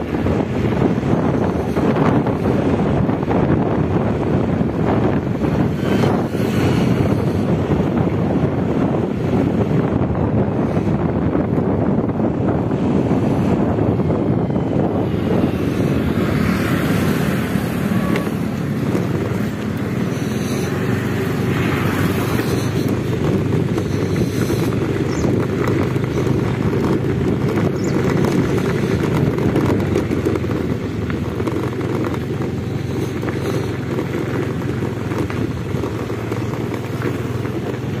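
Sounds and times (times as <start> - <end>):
vehicle motor rumble: 0.0 - 38.0
wind buffeting microphone: 0.0 - 38.0.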